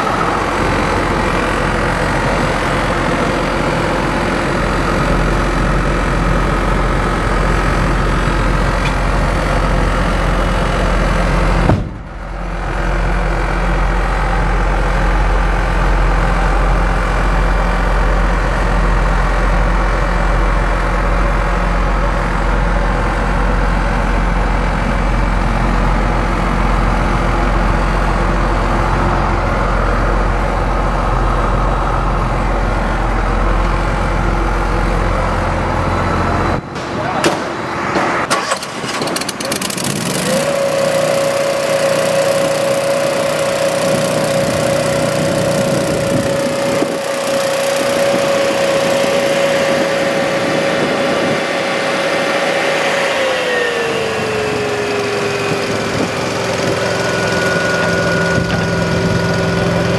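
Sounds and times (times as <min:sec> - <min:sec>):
truck engine idling: 0:00.0 - 0:59.9.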